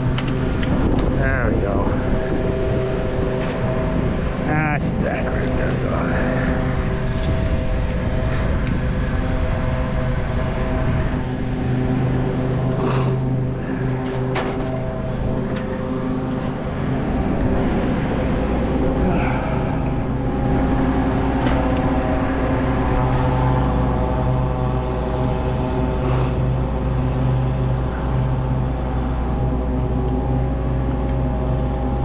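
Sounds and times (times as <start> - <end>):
tracked machine engine running: 0.0 - 32.0.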